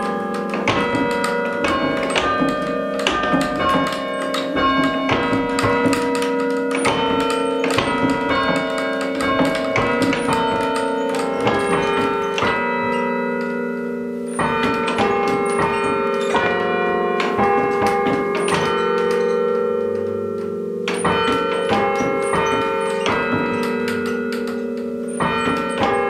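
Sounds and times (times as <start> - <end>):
carillon bells playing a tune: 0.0 - 26.0.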